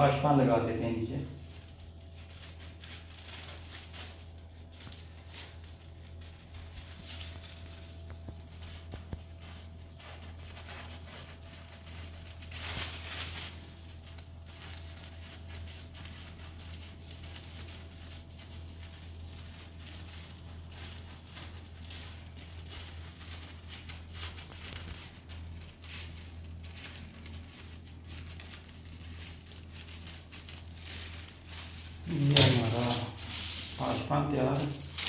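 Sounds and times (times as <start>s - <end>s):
plastic sheet crinkling: 0.0s - 35.0s
steady low hum: 0.0s - 35.0s
scissors cutting plastic sheet: 2.0s - 35.0s.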